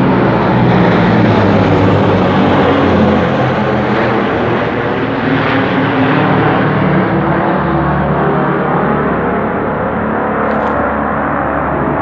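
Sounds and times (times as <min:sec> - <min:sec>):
turboprop aircraft droning overhead: 0:00.0 - 0:12.0.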